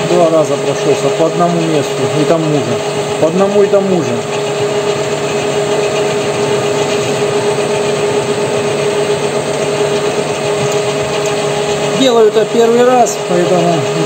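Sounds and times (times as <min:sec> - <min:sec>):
lathe motor whine: 0:00.0 - 0:14.0.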